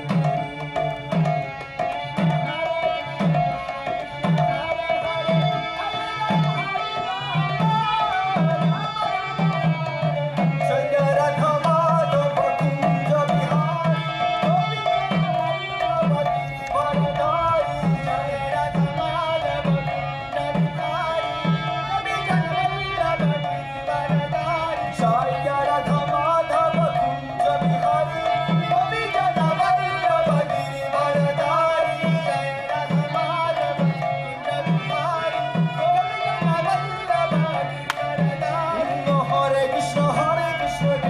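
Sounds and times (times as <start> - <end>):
harmonium melody: 0.0 - 41.0.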